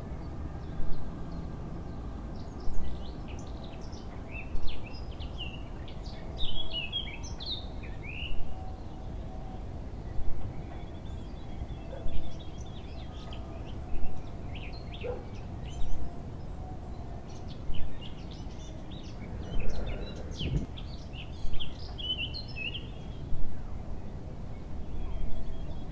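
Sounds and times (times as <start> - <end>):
steady background noise: 0.0 - 25.9
birds chirping and singing: 0.1 - 25.9.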